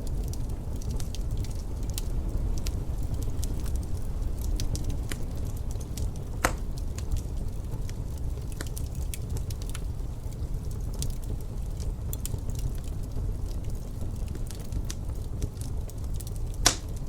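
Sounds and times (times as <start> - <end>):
low rumble of wind: 0.0 - 17.0
wood fire crackling: 0.0 - 17.0.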